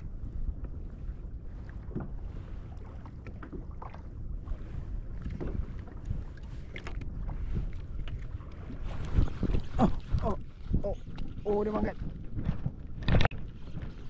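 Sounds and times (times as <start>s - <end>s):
water lapping: 0.0s - 14.0s
wind rumbling on microphone: 0.0s - 14.0s.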